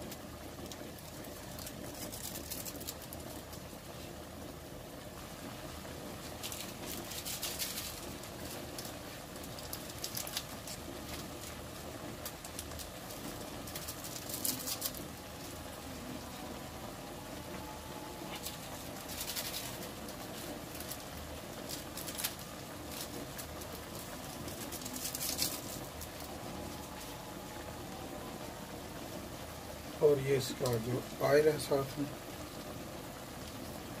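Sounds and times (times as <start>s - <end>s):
crackly popping: 0.0s - 34.0s
water boiling and bubbling: 0.0s - 34.0s.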